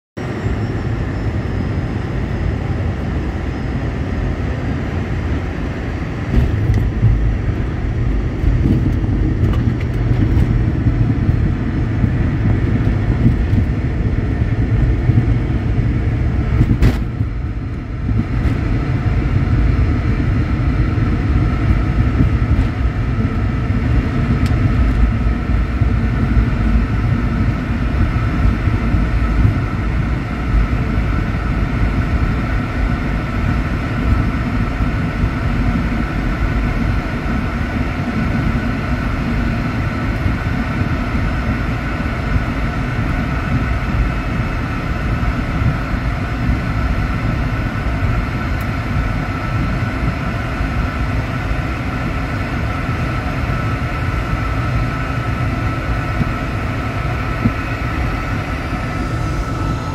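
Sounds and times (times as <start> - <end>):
jet cabin engine rumble: 0.2 - 59.9
steady whine: 0.2 - 59.9.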